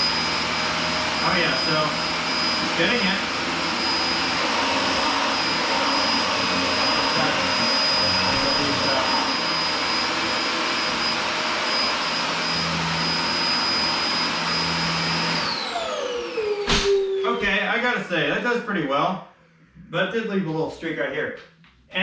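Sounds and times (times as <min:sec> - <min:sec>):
vacuum cleaner whining: 0:00.0 - 0:18.0.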